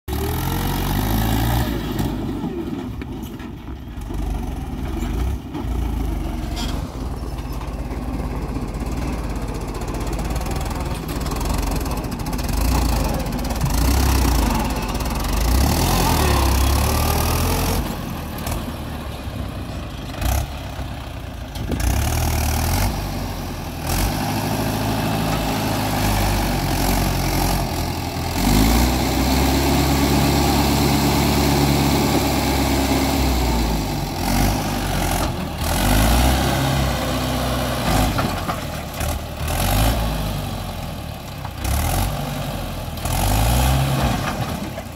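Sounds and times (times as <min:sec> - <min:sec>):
tractor diesel engine running: 0:00.1 - 0:44.9.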